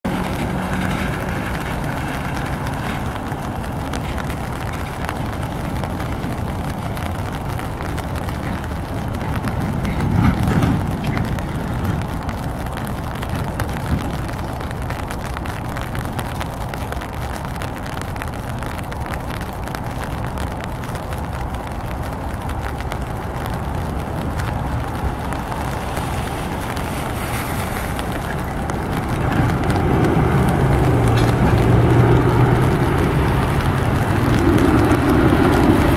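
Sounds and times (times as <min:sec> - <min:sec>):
jet airliner rumble: 0:00.0 - 0:35.9.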